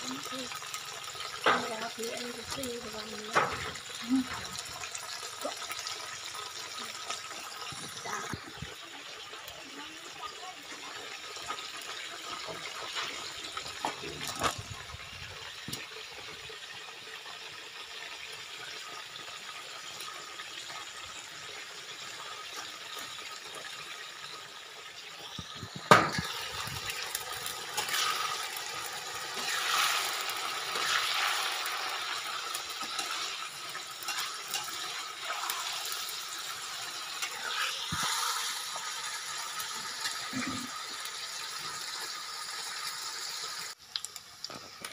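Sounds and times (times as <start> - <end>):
deep-frying in hot oil sizzling: 0.0 - 44.9.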